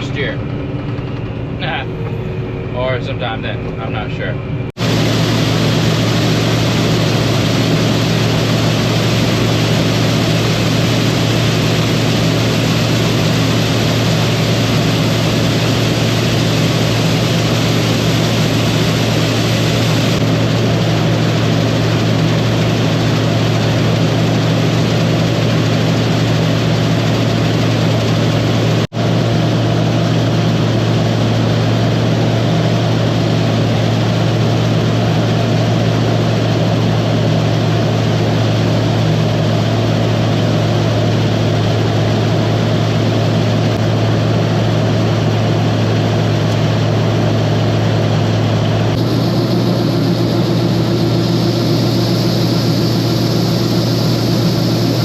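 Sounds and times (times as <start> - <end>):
combine harvester engine drone: 0.0 - 55.0.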